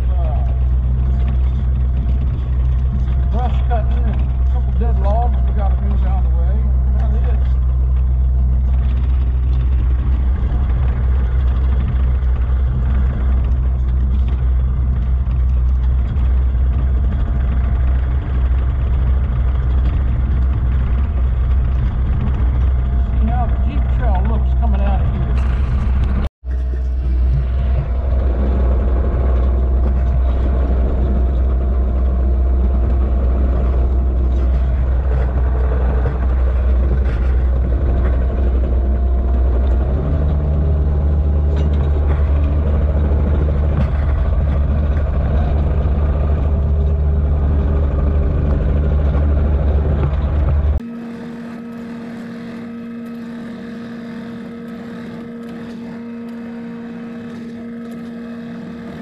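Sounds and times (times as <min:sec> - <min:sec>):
excavator diesel engine rumbling: 0:00.0 - 0:59.0.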